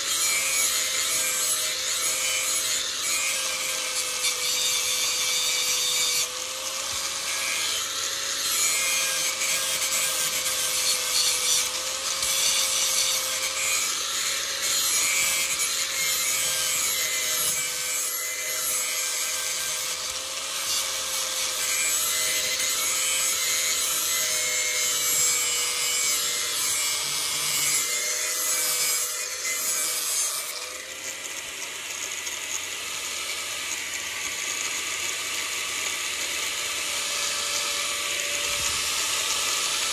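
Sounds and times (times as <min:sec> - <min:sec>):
electric grinder whine: 0:00.0 - 0:39.9
knife blade grinding: 0:00.0 - 0:39.9.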